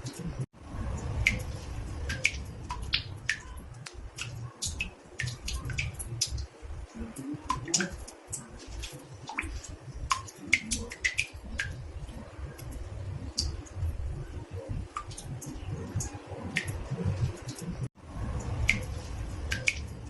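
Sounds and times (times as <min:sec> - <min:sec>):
water drops plinking in bathtub: 0:01.0 - 0:17.6, 0:18.4 - 0:20.0.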